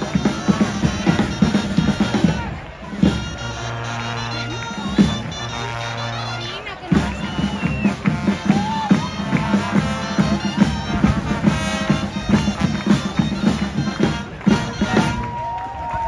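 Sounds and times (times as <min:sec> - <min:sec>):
drumbeats: 0:00.0 - 0:16.0
reed wind instruments: 0:00.0 - 0:16.0.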